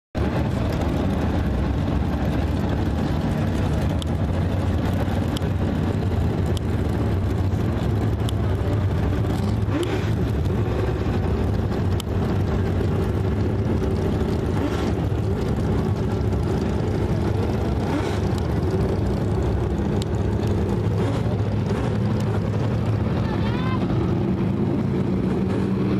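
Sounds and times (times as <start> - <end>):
race car engines droning: 0.2 - 25.9.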